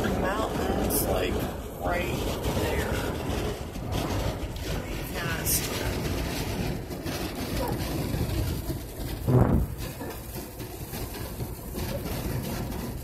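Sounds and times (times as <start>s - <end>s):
wind and road noise in car: 0.0s - 13.0s.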